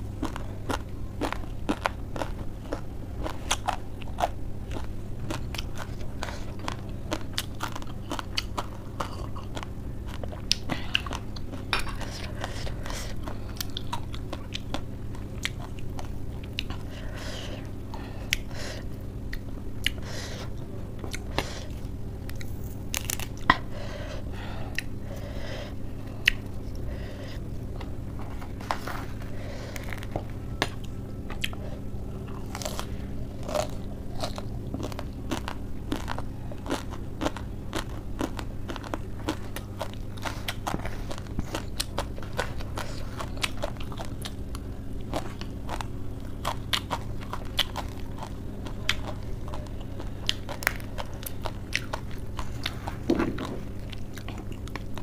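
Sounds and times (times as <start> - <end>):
chewing and crunching: 0.0 - 55.0
steady low hum: 0.0 - 55.0.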